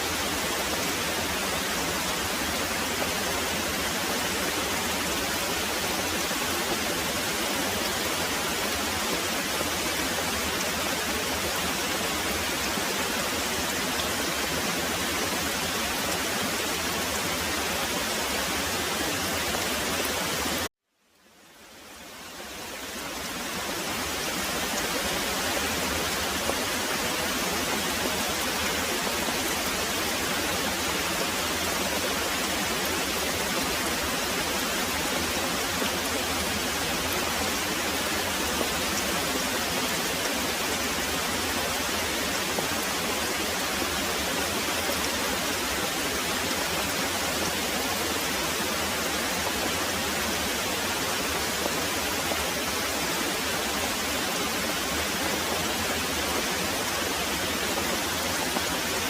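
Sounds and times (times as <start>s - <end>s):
heavy rain pouring: 0.0s - 20.7s, 21.7s - 59.0s.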